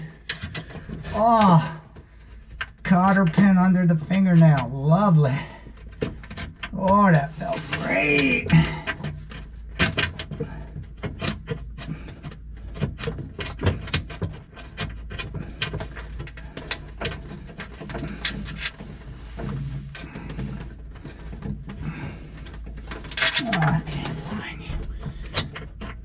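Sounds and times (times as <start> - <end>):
hands fumbling with small parts: 0.0 - 3.4, 5.6 - 26.0.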